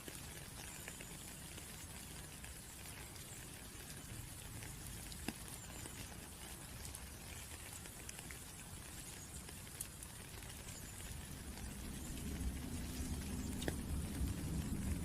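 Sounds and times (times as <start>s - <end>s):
rain hissing: 0.0s - 15.0s
single raindrops ticking: 0.0s - 15.0s.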